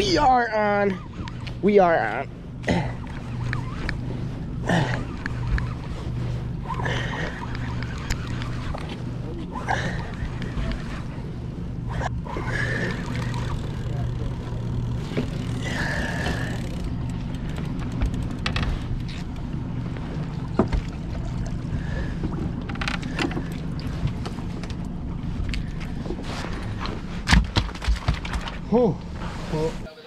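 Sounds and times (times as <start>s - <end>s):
outboard motor idling: 0.0s - 29.8s.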